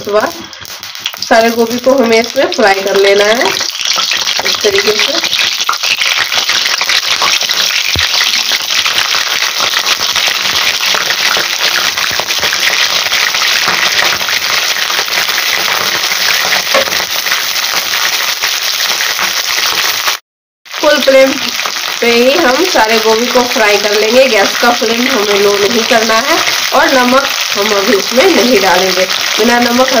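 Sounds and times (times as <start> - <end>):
florets frying in oil: 0.0 - 30.0.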